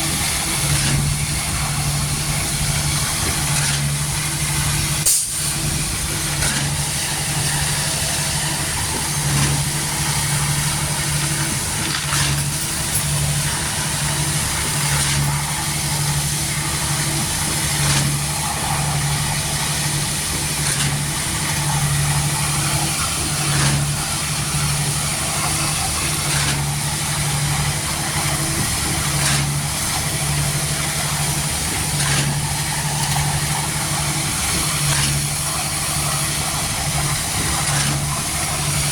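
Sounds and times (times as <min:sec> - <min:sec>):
diesel engine pulsing hum: 0:00.0 - 0:38.9.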